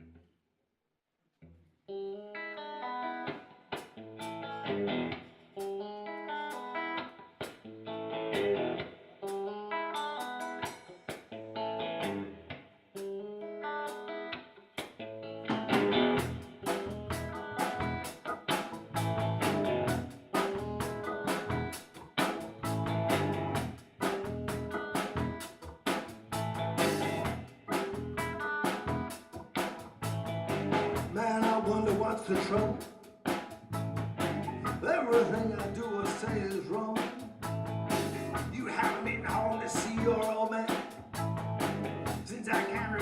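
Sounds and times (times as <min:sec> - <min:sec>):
electric guitar riff: 0:01.9 - 0:43.0
blues band playing: 0:02.3 - 0:43.0.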